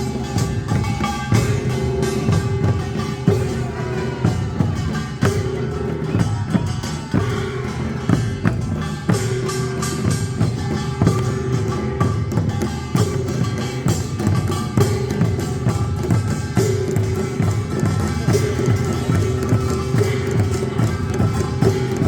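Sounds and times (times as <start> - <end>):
drums and gongs striking: 0.0 - 22.0.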